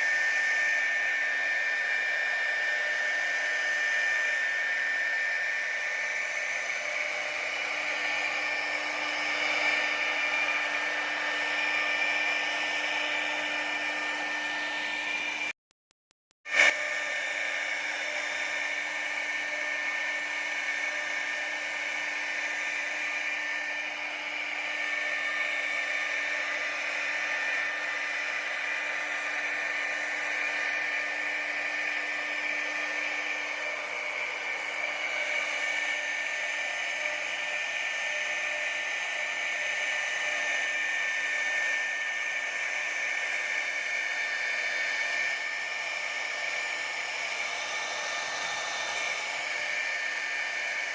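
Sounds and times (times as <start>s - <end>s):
cnc router spindle whining: 0.0s - 15.5s, 16.5s - 50.9s.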